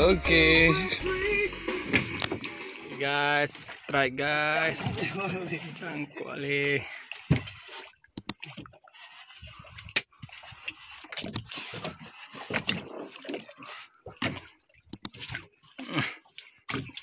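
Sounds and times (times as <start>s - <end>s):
water sloshing against boat hull: 1.1s - 17.0s.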